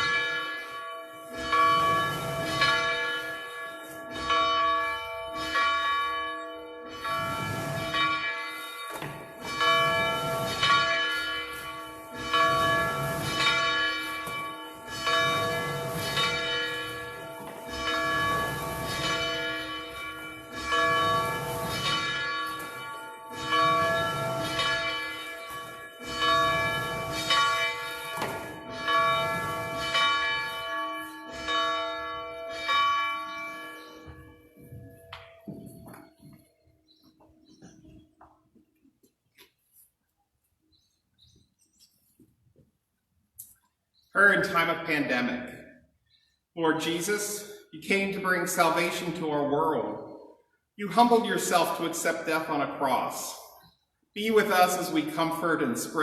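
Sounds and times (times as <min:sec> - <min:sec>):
church bells ringing: 0:00.0 - 0:37.7, 0:44.2 - 0:56.0.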